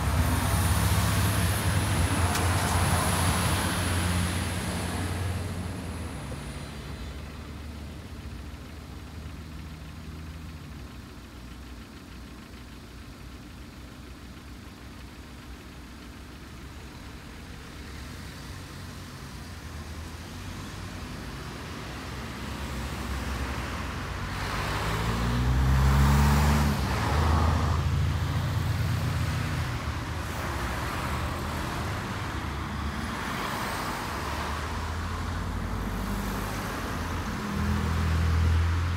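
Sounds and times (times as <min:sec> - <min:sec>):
cars driving past: 0:00.0 - 0:10.8, 0:16.6 - 0:38.9.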